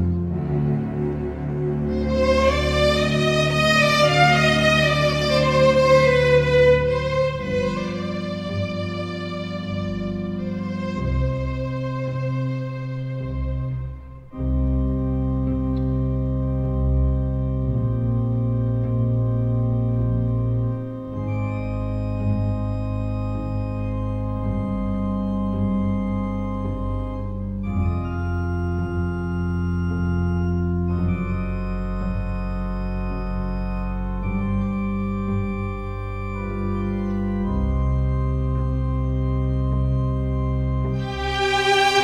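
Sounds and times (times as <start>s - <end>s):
slow organ chords: 0.0s - 42.0s.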